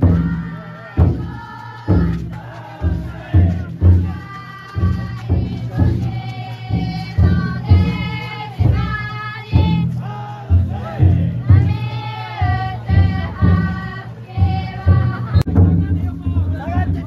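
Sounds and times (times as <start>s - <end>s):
crowd chanting in long notes: 0.0s - 15.5s
big taiko drum strikes: 0.0s - 17.0s.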